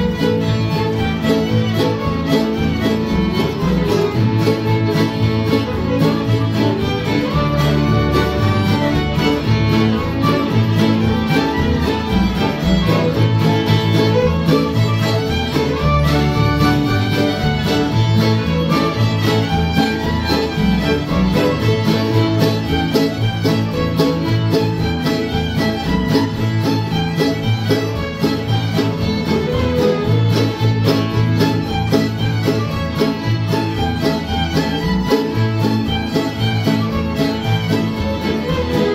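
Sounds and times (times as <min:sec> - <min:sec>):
fiddles playing a tune: 0:00.0 - 0:38.9
mandolin: 0:00.0 - 0:38.9
strummed acoustic guitar: 0:00.0 - 0:38.9.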